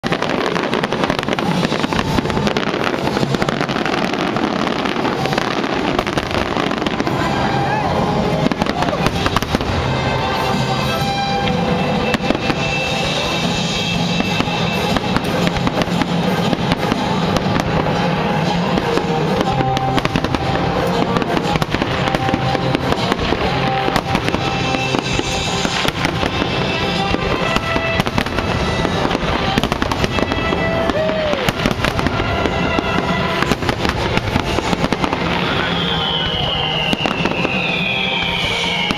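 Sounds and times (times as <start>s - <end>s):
falling firework whistle: 0.0s - 38.9s
fireworks bangs and crackles: 0.0s - 38.9s
music playing: 0.0s - 38.9s.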